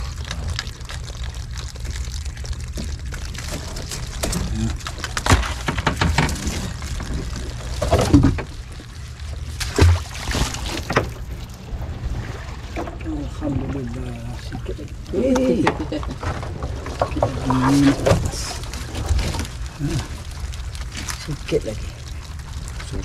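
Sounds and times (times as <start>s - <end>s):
water pouring and dripping off net: 0.0s - 12.8s, 15.2s - 23.0s
steady low rumble: 0.0s - 23.0s
water splashes: 0.0s - 23.0s.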